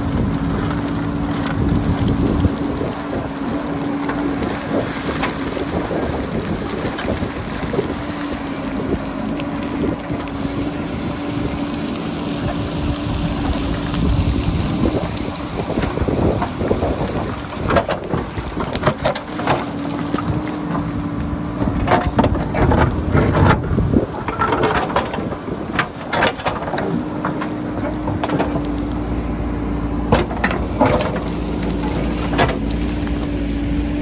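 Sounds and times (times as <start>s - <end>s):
bucket scraping rock and rubble: 0.0s - 34.0s
diesel engine running: 0.0s - 34.0s
wind buffeting microphone: 0.0s - 34.0s.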